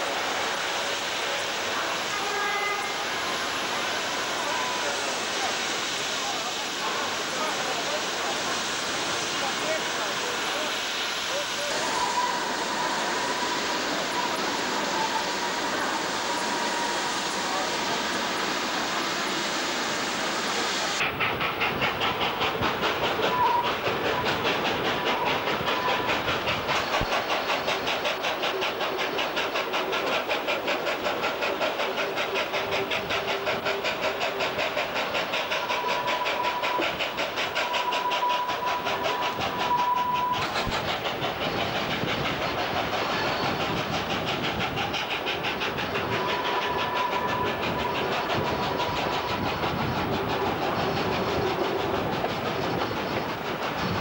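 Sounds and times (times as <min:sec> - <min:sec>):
carriages running on rails: 0:00.0 - 0:54.0
steam locomotive exhaust chuffs: 0:00.0 - 0:54.0.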